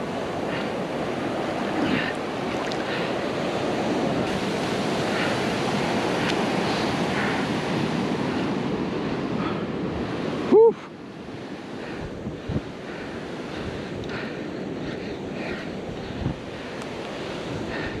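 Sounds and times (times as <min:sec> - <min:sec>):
ocean waves breaking: 0:00.0 - 0:18.0
wind on microphone: 0:00.0 - 0:18.0.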